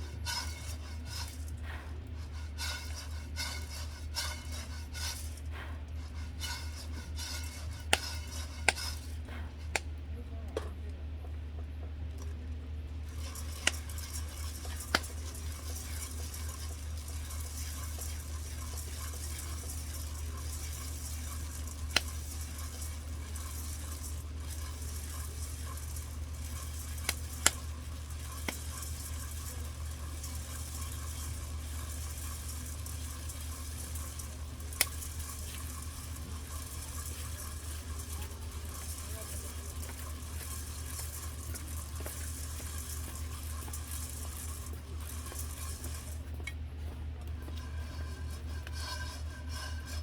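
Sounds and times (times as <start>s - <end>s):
food sizzling in a pan: 0.0s - 9.8s, 13.0s - 46.3s, 47.6s - 50.0s
low steady hum: 0.0s - 50.0s.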